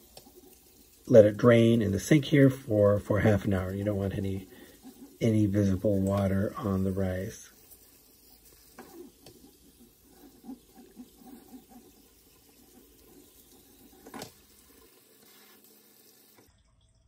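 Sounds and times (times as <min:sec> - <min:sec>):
tap water trickling over rice: 0:00.0 - 0:17.0.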